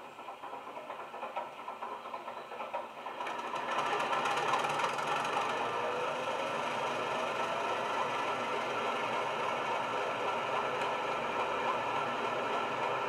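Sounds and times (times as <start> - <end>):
model locomotive diesel engine: 0.0 - 13.0.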